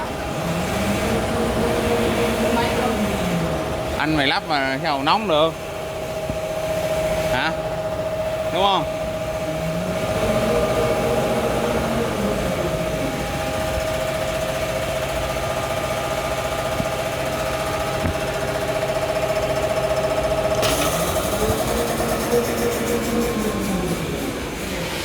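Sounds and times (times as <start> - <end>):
machine whine over low hum: 0.0 - 25.0.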